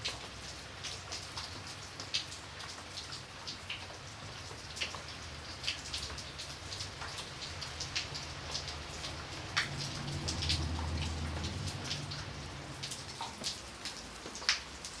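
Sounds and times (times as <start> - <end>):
light rain pattering: 0.0 - 15.0
raindrops tapping on a surface: 0.0 - 15.0.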